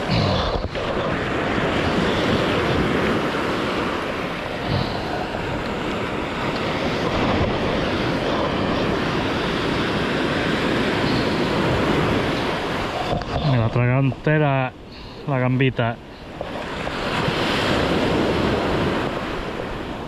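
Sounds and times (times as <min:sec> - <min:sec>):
wind noise on microphone: 0:00.0 - 0:14.3, 0:16.2 - 0:20.0
sea surf breaking: 0:00.0 - 0:20.0.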